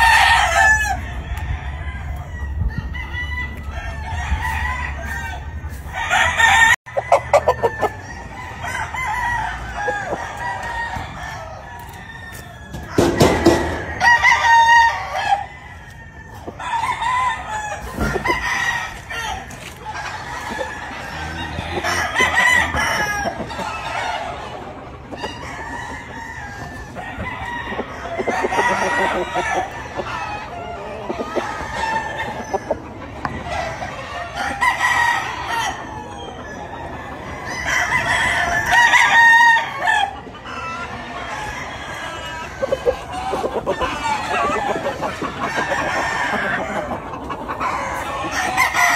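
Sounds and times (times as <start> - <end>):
roosters crowing: 0.0 - 48.9.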